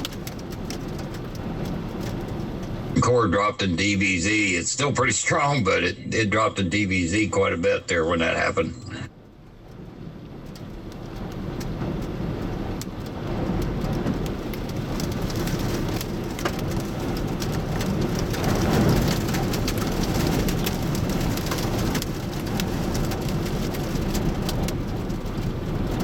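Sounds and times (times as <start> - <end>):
heavy rain pelting a vehicle: 0.0 - 26.0.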